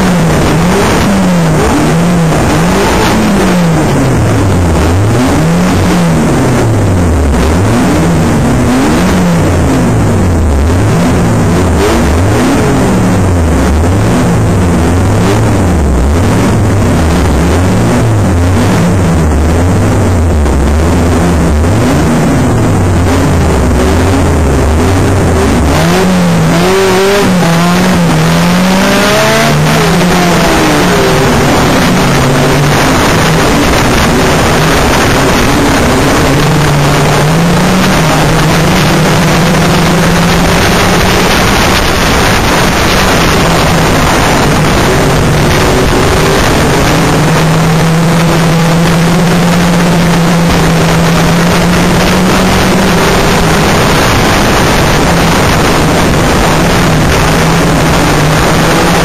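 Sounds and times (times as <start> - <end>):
racing car engine revving: 0.0 - 59.0
road and wind noise: 0.0 - 59.0.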